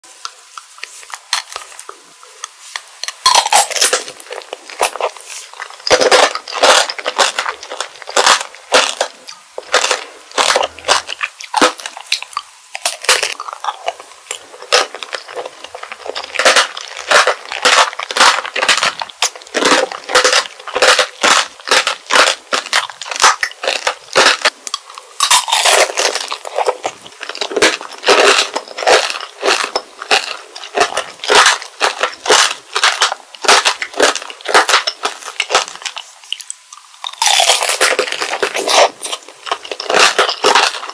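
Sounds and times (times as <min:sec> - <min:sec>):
crunching candied fruit: 0:00.0 - 0:40.9.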